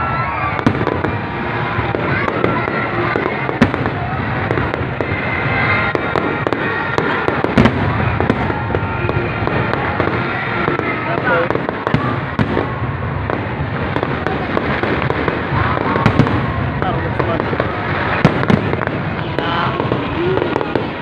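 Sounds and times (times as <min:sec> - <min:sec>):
fireworks bangs and pops: 0:00.0 - 0:21.0
fireworks crackling: 0:00.0 - 0:21.0.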